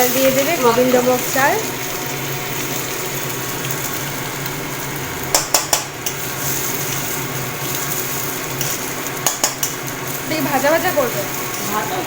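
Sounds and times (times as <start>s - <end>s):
ghee sizzling in a pot: 0.0s - 12.0s.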